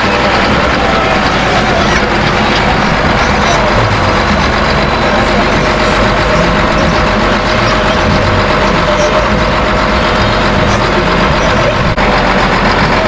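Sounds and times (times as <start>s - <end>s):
heavy vehicle engines running: 0.0s - 13.0s.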